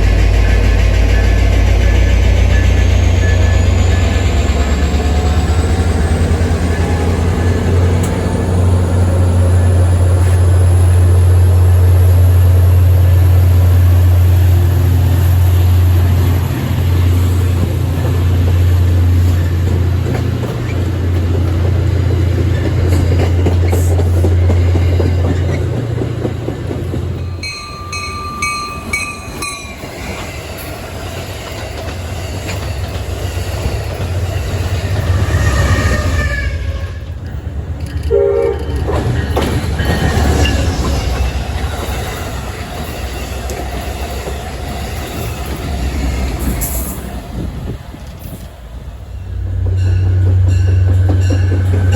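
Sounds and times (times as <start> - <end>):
train passing on rails: 0.0 - 51.9.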